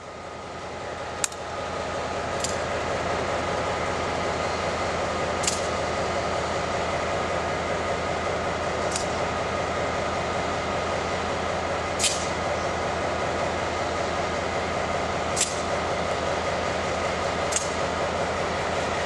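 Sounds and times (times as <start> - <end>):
diesel locomotive rumble: 0.0 - 19.0.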